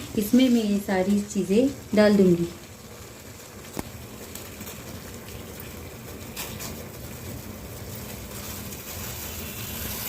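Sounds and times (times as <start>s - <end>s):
water boiling in a pan: 0.0s - 10.0s.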